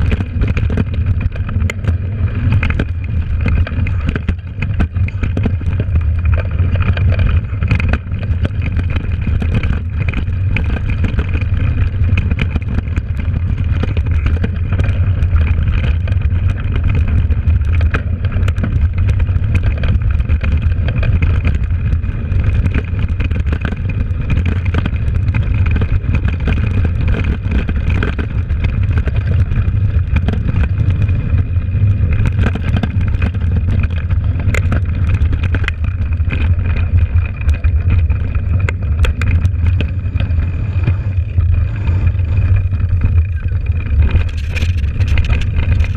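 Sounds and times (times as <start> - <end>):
bike clicking and knocking over bumps: 0.0 - 45.9
rumble of tyres and air: 0.0 - 45.9.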